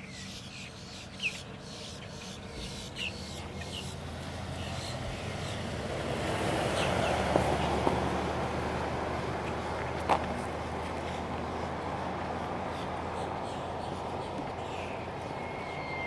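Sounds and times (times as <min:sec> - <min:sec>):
pickup truck driving past: 0:02.7 - 0:16.0.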